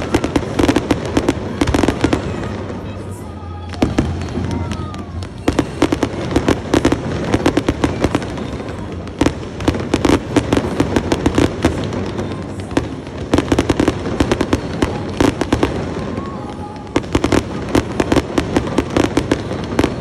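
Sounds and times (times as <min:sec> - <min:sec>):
fireworks crackling pops: 0:00.0 - 0:20.0.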